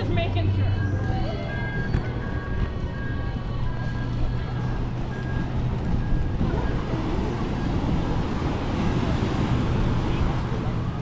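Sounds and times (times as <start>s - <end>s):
faint music: 0.0s - 11.0s
road traffic rumble: 0.0s - 11.0s.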